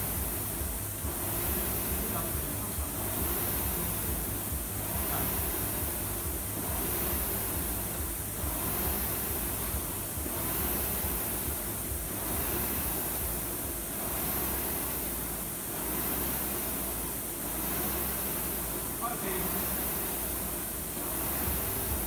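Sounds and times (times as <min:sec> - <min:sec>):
rowing machine flywheel whooshing: 0:00.0 - 0:22.0.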